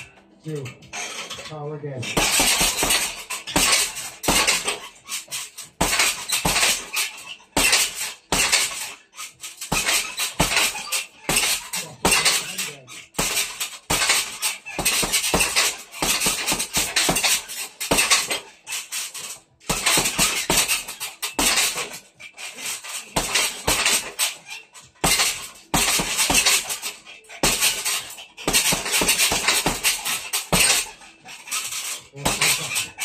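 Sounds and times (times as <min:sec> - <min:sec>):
metallic rattling of bag hanger: 0:00.5 - 0:33.0
punches thudding on heavy bag: 0:02.1 - 0:09.0, 0:09.6 - 0:33.0.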